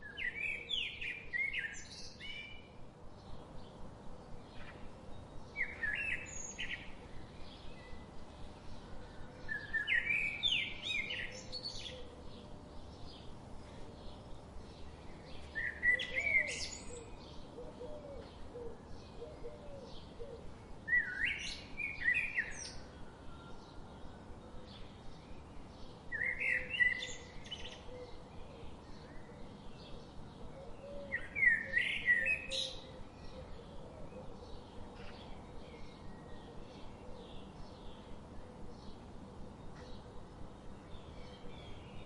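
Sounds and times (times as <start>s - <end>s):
soft background hiss: 0.0s - 42.0s
songbird singing: 0.0s - 42.0s.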